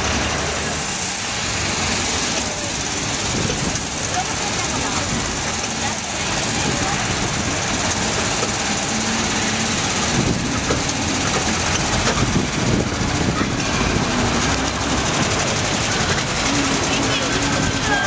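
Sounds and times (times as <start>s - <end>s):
carriages rattling and jolting: 0.0s - 18.0s
road train engine running: 0.0s - 18.0s.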